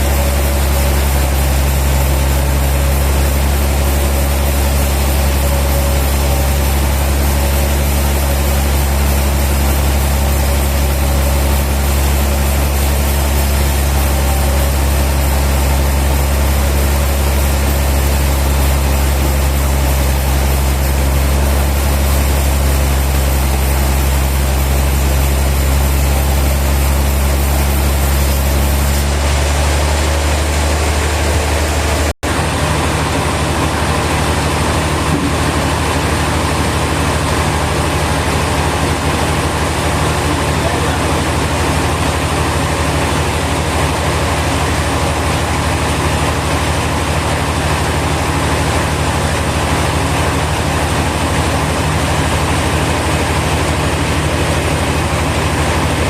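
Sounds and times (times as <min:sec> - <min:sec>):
heavy machinery running: 0:00.0 - 0:56.0.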